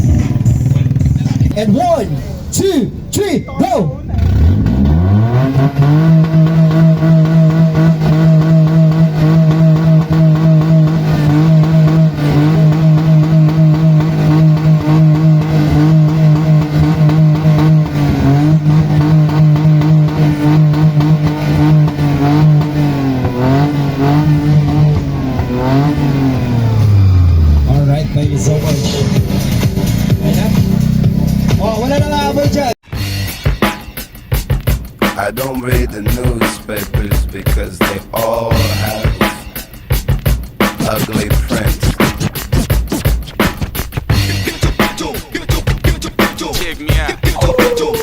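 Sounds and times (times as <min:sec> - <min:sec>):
car engine revving: 0:00.0 - 0:32.8, 0:34.5 - 0:48.0.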